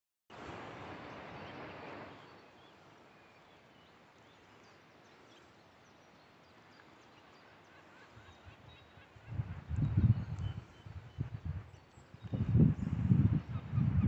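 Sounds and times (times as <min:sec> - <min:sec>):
soft rush of noise: 0:00.3 - 0:13.1
distant small birds chirping: 0:00.4 - 0:14.0.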